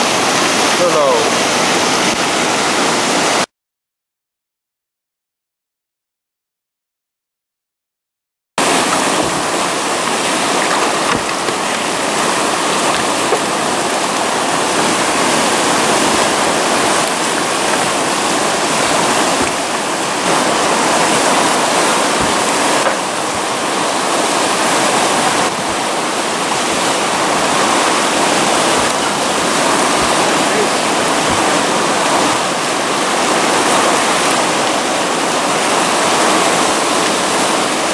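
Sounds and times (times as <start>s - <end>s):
river rapids rushing: 0.0s - 3.5s, 8.6s - 37.9s.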